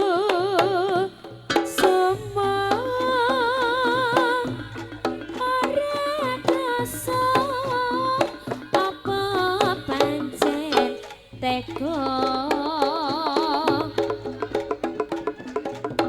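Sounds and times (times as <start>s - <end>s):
sharp hand-drum strokes: 0.0s - 16.0s.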